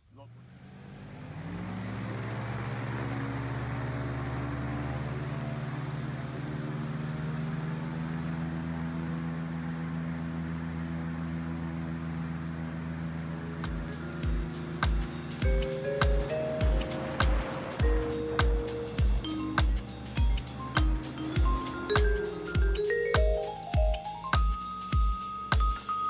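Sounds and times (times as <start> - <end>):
airboat engine and propeller: 0.9 - 25.8.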